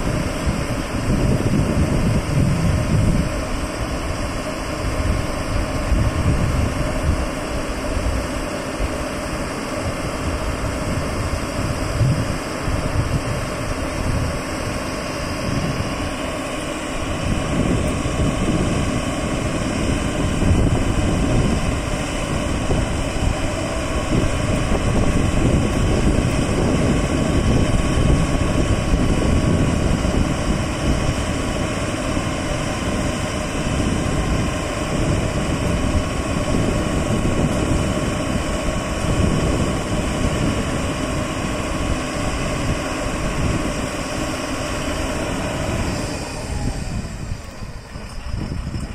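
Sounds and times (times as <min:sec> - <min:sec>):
diesel truck engine running: 0:00.0 - 0:48.9
faint steady whine: 0:00.0 - 0:48.9.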